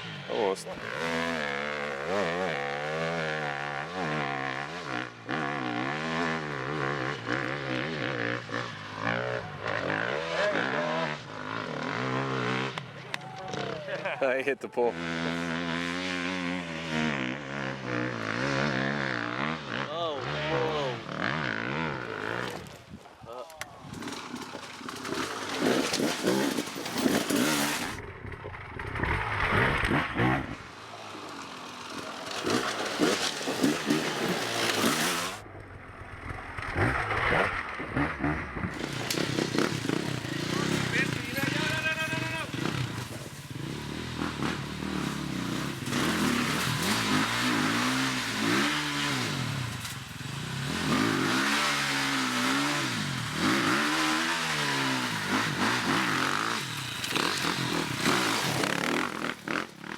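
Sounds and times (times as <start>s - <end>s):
dirt bike engine revving: 0.0s - 22.9s, 23.8s - 59.9s.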